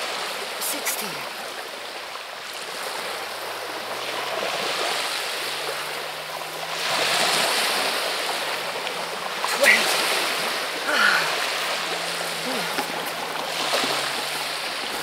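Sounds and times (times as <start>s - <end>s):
waves washing onto pebble beach: 0.0s - 15.0s.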